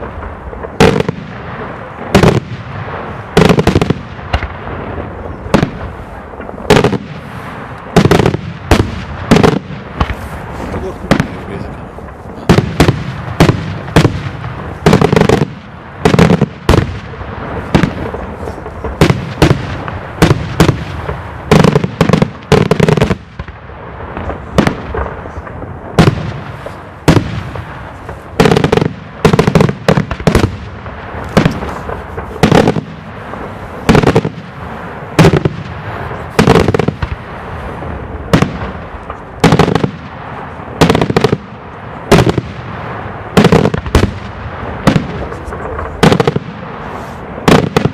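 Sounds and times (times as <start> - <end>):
aerial fireworks bursting: 0.0 - 47.9.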